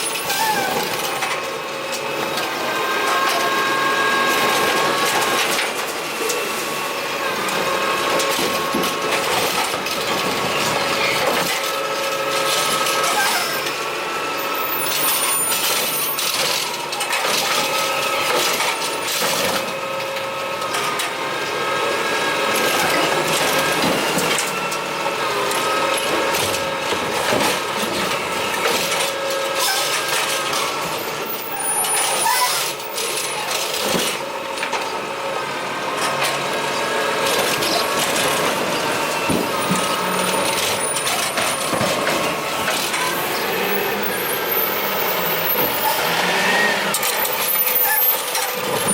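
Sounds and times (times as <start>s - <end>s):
carts clattering and knocking: 0.0s - 13.8s, 14.4s - 48.9s
garbage truck engine and hydraulics: 0.0s - 48.9s.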